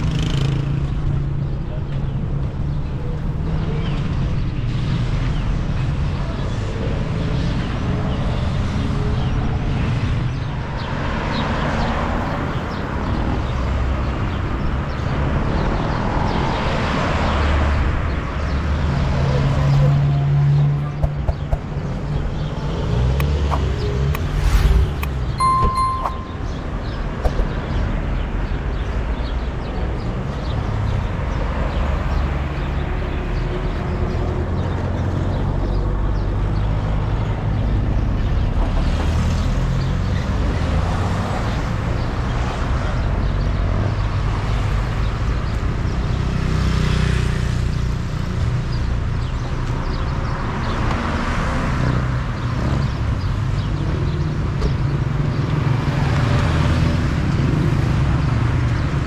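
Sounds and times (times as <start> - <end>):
car engines rumbling: 0.0 - 59.0
vehicles passing: 0.0 - 59.0.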